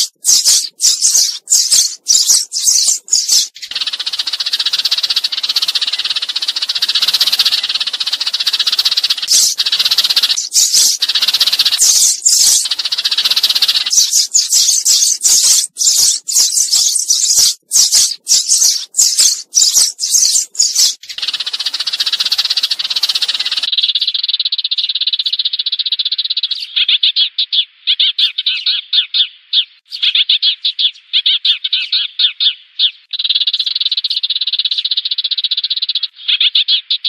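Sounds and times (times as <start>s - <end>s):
sparrow chirps and trills: 0.0s - 37.0s.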